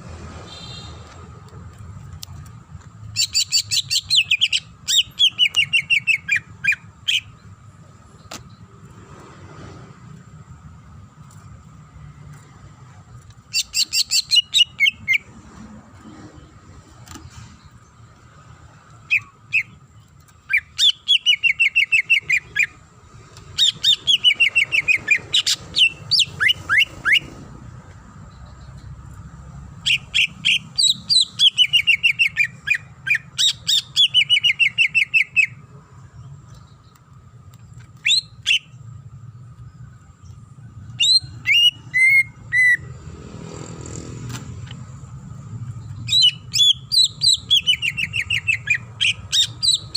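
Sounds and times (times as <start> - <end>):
bird singing sweeping notes: 3.0 - 9.0, 13.4 - 22.8, 23.5 - 29.2, 29.8 - 49.9.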